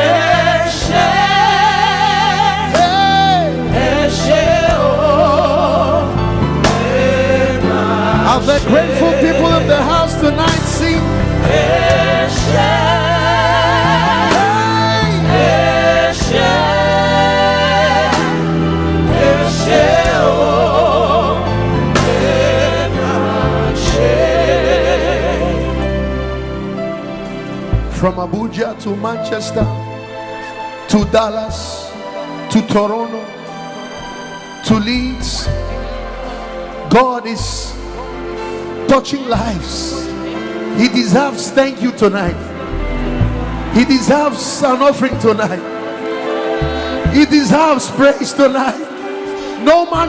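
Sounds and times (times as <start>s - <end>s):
voices singing gospel song: 0.0s - 27.7s, 30.3s - 50.0s
keyboard chords and bass: 0.0s - 50.0s.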